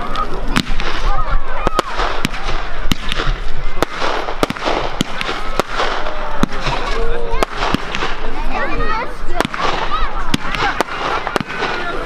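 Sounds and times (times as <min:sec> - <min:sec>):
fireworks bangs: 0:00.0 - 0:12.0
fireworks crackle and hiss: 0:00.0 - 0:12.0.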